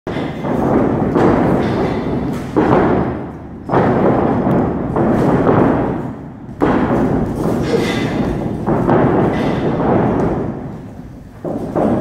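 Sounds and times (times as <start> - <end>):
heavy thuds on wrestling ring: 0.1 - 12.0.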